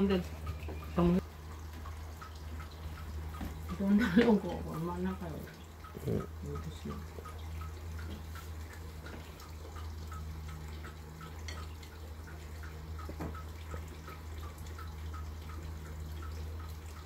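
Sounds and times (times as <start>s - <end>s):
faint dripping: 0.0s - 17.0s
steady low hum: 0.0s - 17.0s.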